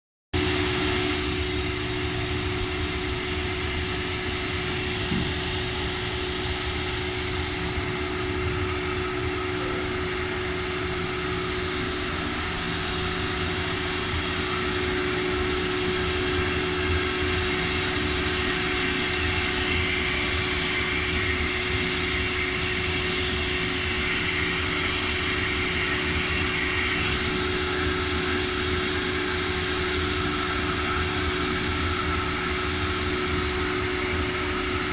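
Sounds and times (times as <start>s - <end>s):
cnc machine whining: 0.4s - 34.9s.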